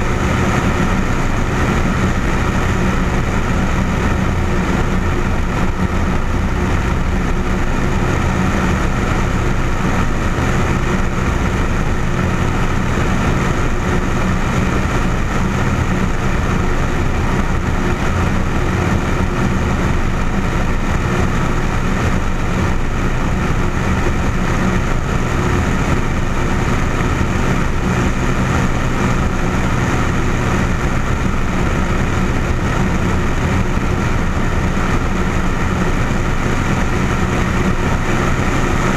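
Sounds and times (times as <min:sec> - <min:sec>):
aircraft engine and propeller drone: 0:00.0 - 0:38.9.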